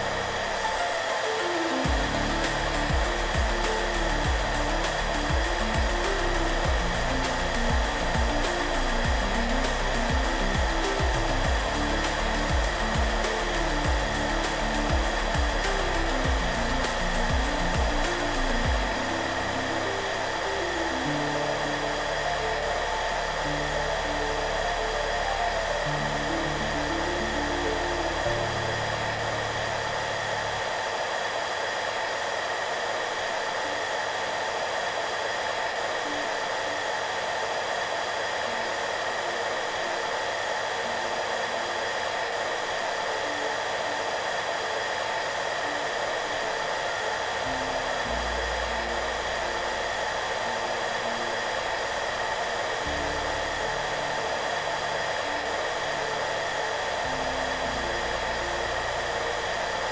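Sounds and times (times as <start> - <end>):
soft background music: 0.0 - 31.8, 35.7 - 59.9
hair dryer running: 0.0 - 59.9.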